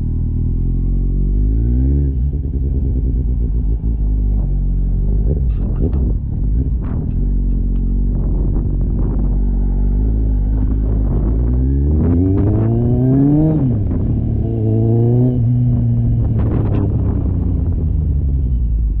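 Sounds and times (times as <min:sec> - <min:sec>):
motorcycle engine revving: 0:00.0 - 0:18.8
wind rumble on microphone: 0:01.0 - 0:19.0.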